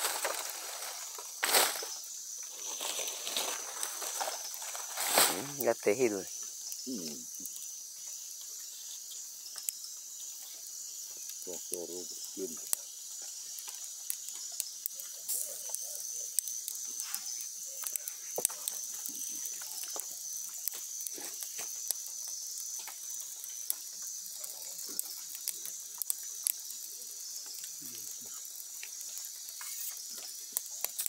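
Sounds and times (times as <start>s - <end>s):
high insect drone: 0.0s - 31.0s
wood fire crackling and popping: 0.0s - 31.0s.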